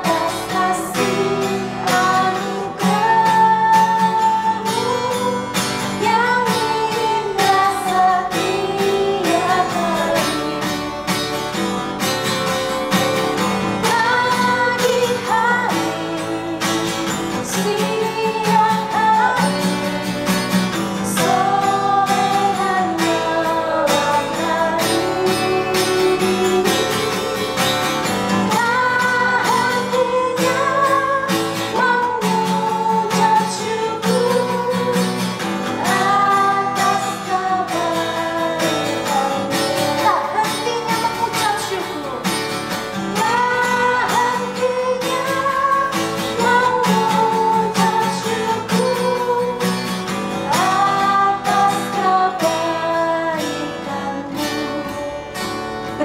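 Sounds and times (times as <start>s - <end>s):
voices singing a praise song: 0.0s - 11.3s, 12.9s - 55.2s
strummed acoustic guitar: 0.0s - 56.0s.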